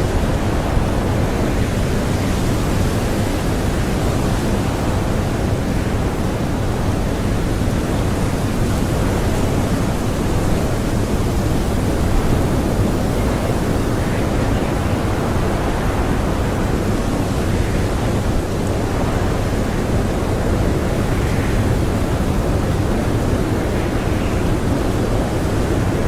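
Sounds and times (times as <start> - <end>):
blizzard wind blowing: 0.0 - 26.0.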